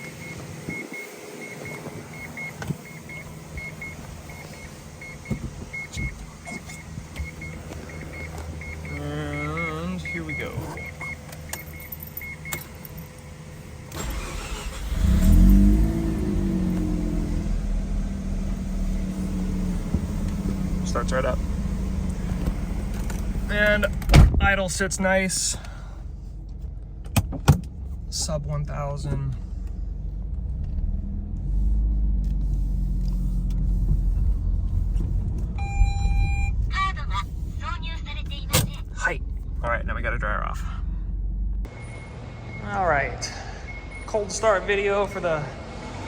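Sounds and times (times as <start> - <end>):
rotary engine revving and idling: 3.1 - 46.0.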